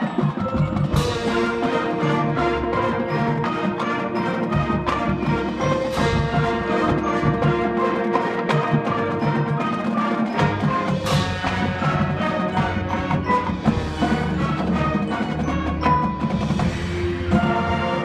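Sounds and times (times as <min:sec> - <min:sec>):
drum strikes: 0:00.0 - 0:18.0
marching band playing: 0:00.0 - 0:18.0.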